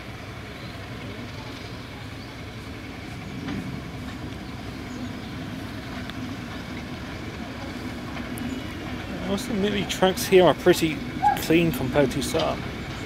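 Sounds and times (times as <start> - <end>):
diesel train engine rumbling: 0.0 - 13.0.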